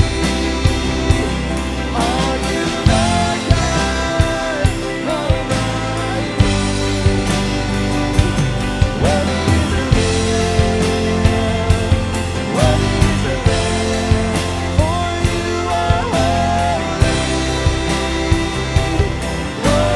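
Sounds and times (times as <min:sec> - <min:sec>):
band playing: 0:00.0 - 0:19.9
drum kit beat: 0:00.0 - 0:19.9
person singing: 0:00.0 - 0:19.9.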